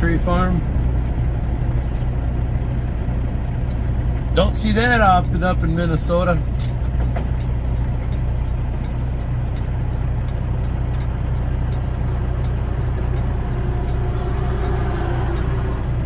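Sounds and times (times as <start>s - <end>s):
road noise: 0.0s - 16.0s
truck diesel engine running: 0.0s - 16.0s.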